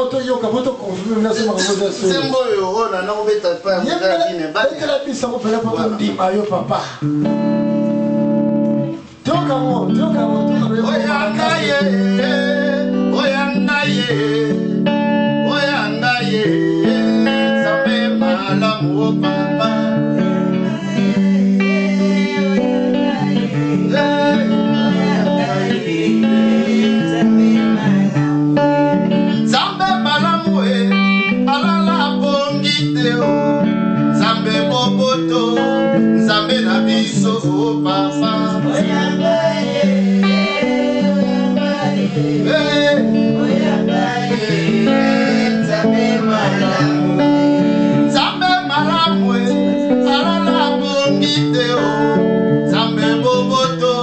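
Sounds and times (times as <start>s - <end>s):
electric guitar melody: 6.8s - 54.0s
man singing: 8.8s - 54.0s.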